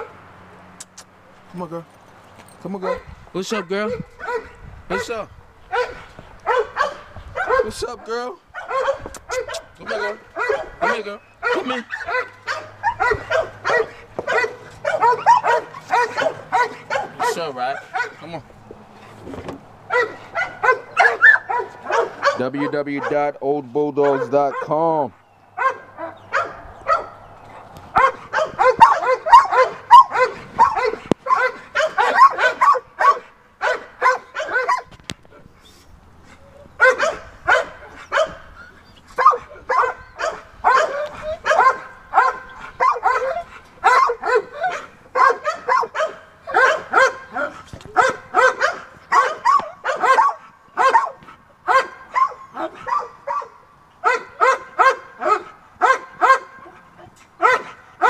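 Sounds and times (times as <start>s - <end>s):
dogs barking: 2.7s - 35.0s, 36.2s - 58.0s.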